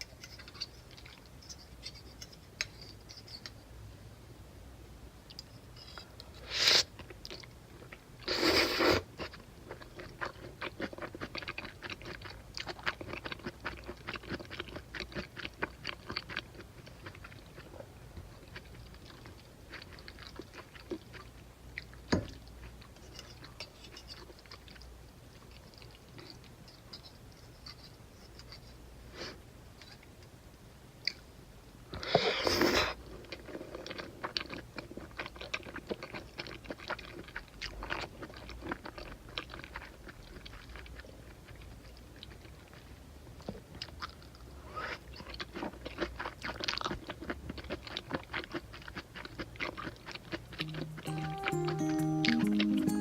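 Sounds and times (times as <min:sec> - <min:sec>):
person chewing food: 0:00.1 - 0:02.1, 0:07.0 - 0:28.7, 0:32.7 - 0:53.0.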